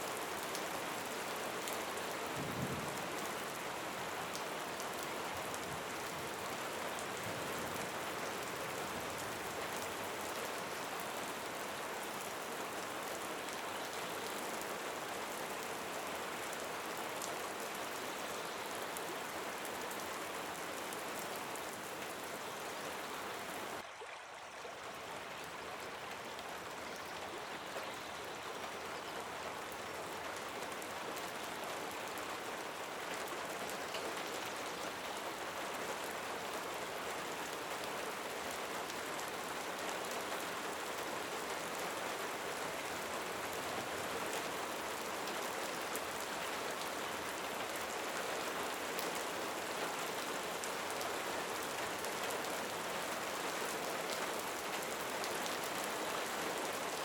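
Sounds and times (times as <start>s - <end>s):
steady rain falling: 0.0s - 24.0s, 24.6s - 57.0s.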